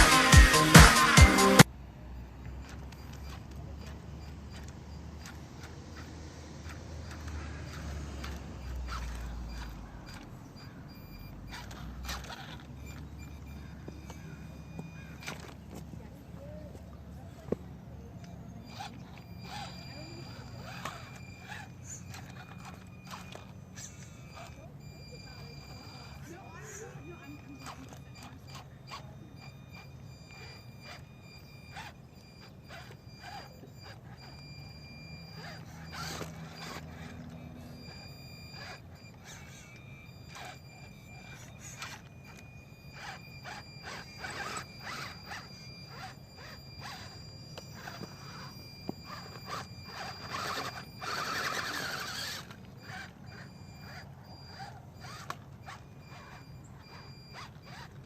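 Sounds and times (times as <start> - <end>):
electric motor whine: 0.0 - 1.7, 2.3 - 58.0.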